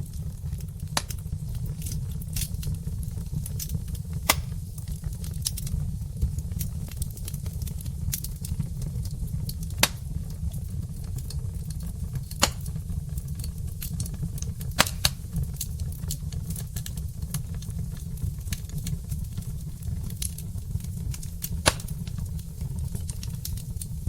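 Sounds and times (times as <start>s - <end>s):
fire crackles: 0.0s - 24.0s
low rumble of flames: 0.0s - 24.0s
sharp pops from burning logs: 0.0s - 24.0s.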